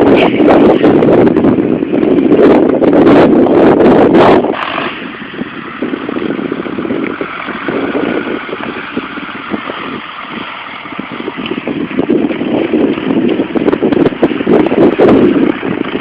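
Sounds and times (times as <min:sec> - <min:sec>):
loud rush of noise: 0:00.0 - 0:16.0
tractor engine running: 0:00.0 - 0:16.0.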